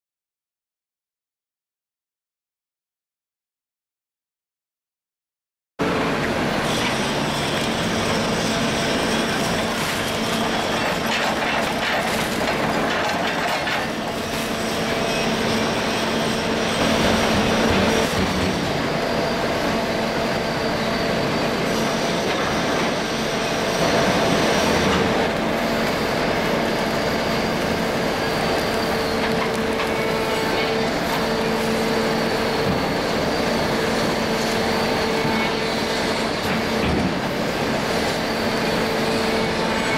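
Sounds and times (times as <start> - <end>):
hydraulic hum: 5.8 - 39.9.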